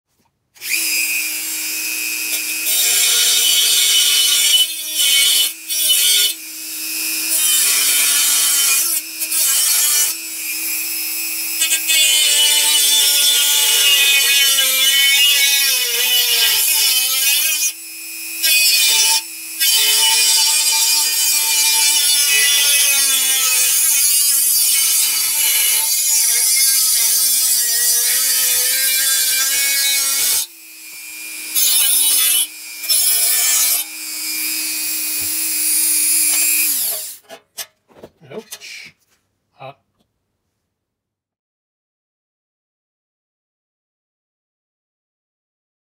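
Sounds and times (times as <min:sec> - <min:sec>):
rotary tool grinding metal: 0:00.6 - 0:37.8.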